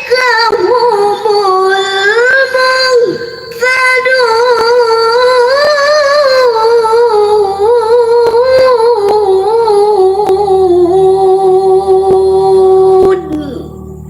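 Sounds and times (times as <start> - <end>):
woman reciting melodically: 0.0 - 14.0.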